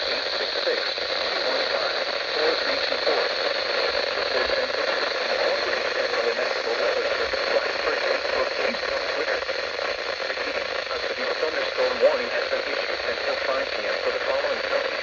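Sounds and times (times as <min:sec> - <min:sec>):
faint voice on radio: 0:00.0 - 0:15.0
radio static hiss: 0:00.0 - 0:15.0.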